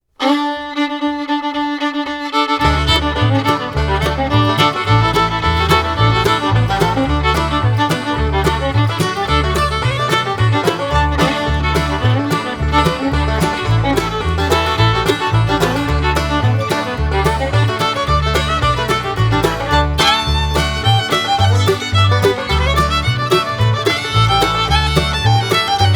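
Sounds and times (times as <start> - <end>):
fiddle-led music with beat: 0.1 - 25.9.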